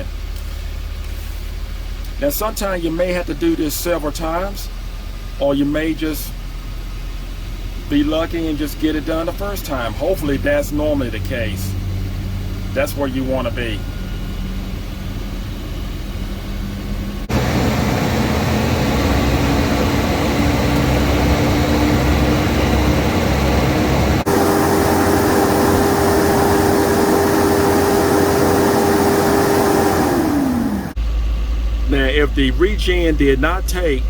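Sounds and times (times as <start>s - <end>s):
diesel engine at raised idle: 0.0s - 34.0s
engine whine: 0.0s - 34.0s.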